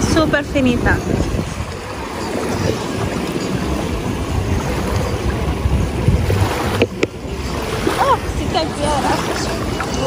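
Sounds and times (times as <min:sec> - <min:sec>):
gentle waves at shoreline: 0:00.0 - 0:10.0
wind buffeting microphone: 0:00.0 - 0:10.0.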